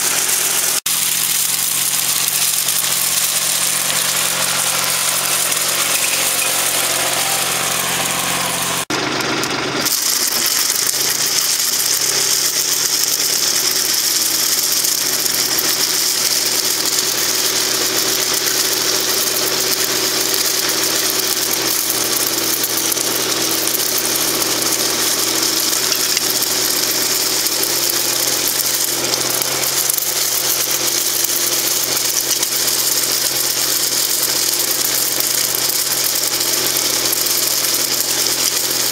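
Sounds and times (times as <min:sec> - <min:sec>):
vineyard sweep spinning: 0:00.0 - 0:33.8
tractor engine running: 0:00.0 - 0:38.9.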